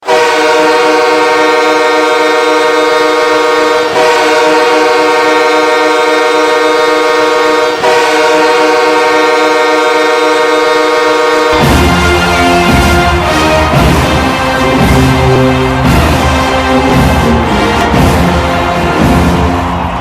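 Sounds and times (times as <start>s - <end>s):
hockey goal horn blasts: 0.0s - 20.0s.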